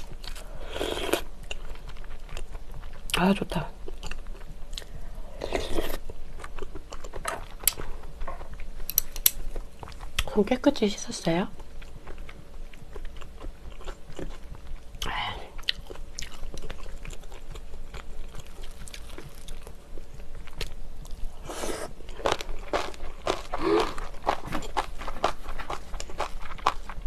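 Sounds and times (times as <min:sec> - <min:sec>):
chewing and crunching: 0:00.0 - 0:10.4, 0:11.5 - 0:27.0.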